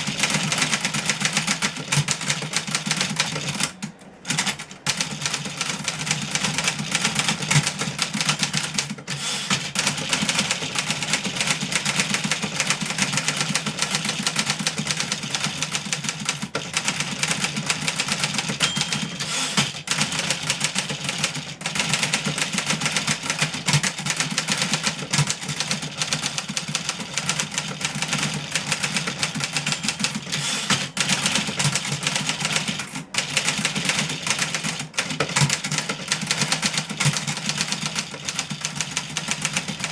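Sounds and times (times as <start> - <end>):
typewriter keys typing fast: 0.0 - 39.9.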